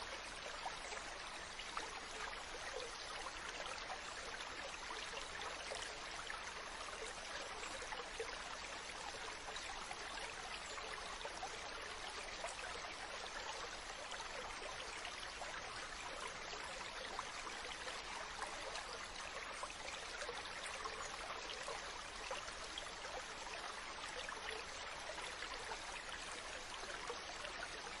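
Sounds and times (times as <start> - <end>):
water flowing: 0.0 - 28.0.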